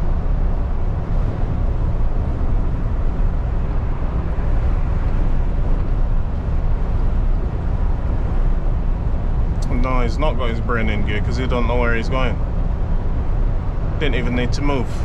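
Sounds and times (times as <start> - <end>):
lorry engine rumble in cab: 0.0 - 15.0.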